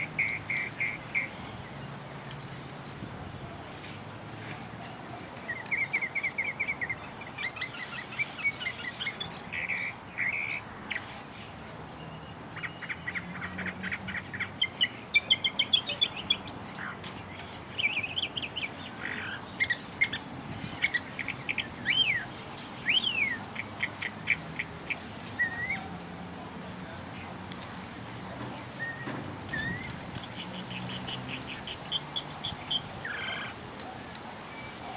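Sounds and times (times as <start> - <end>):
birds chirping and trilling: 0.0 - 2.4, 5.4 - 27.3, 28.8 - 34.9.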